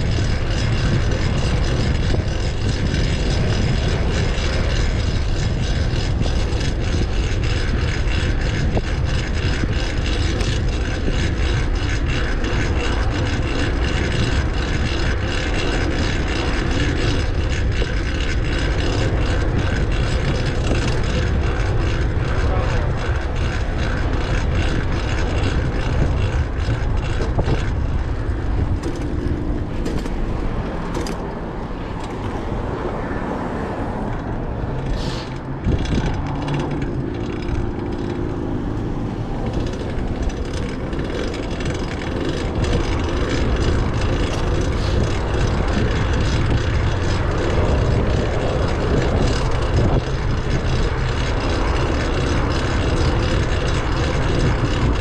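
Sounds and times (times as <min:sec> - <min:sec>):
bicycle drivetrain ticking: 0:00.0 - 0:55.0
wind and road noise: 0:00.0 - 0:55.0.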